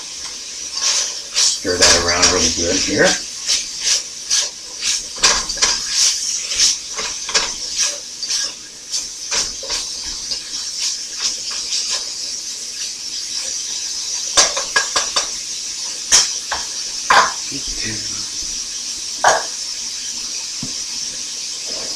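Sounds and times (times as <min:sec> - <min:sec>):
spatula scraping and stirring: 0:00.0 - 0:18.0
meat and vegetables sizzling in skillet: 0:00.0 - 0:21.9.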